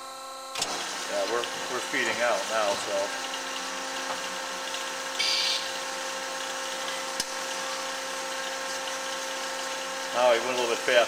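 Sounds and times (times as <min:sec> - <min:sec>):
band saw humming: 0:00.0 - 0:11.0.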